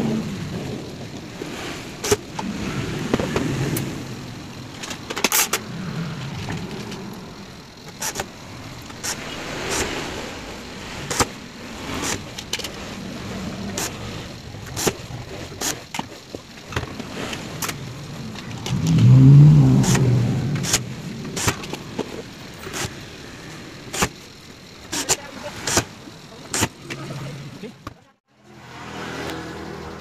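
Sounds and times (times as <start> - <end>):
low background rumble: 0.0 - 24.8.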